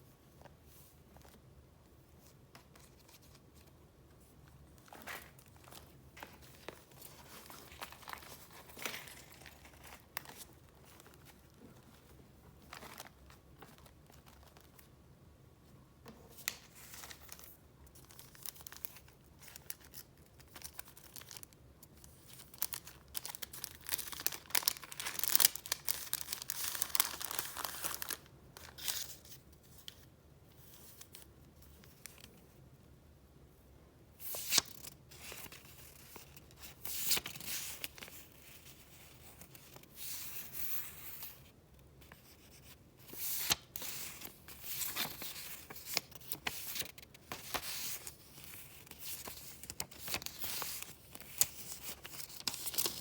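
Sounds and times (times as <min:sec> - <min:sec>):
paper rustling and crinkling: 0:02.2 - 0:14.9, 0:16.3 - 0:32.4, 0:34.2 - 0:53.0.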